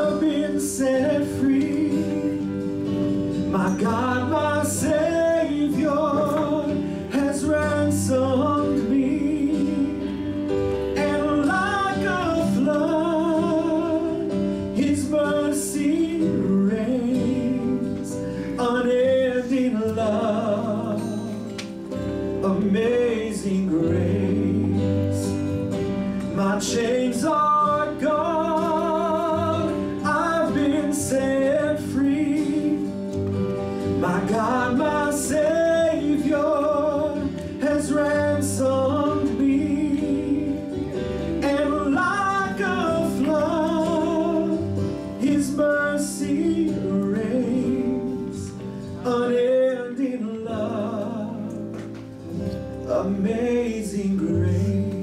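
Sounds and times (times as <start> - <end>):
man singing gospel: 0.0 - 2.6, 3.4 - 21.6, 22.4 - 25.6, 26.3 - 33.1, 33.8 - 51.8, 52.8 - 55.0
acoustic guitar: 0.0 - 55.0.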